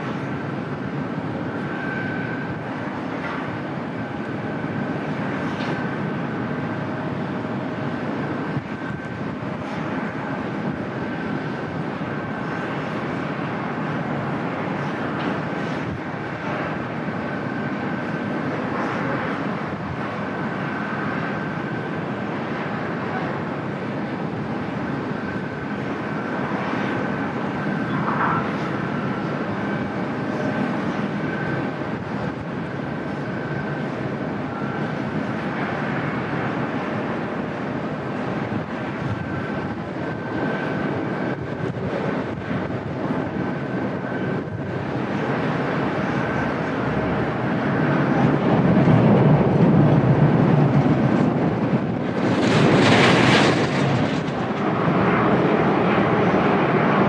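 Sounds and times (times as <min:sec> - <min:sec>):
jet engines running: 0:00.0 - 0:57.0
thin steady whine: 0:00.0 - 0:57.0.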